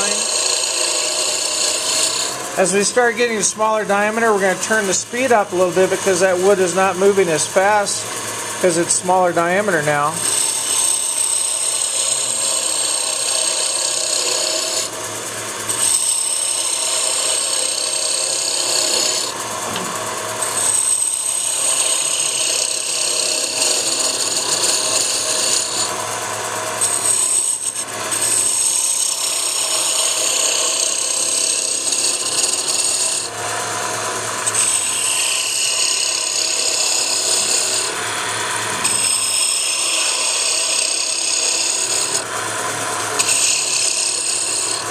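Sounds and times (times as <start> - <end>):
gouge scraping spinning wood: 0.0 - 44.9
lathe motor humming: 0.0 - 44.9.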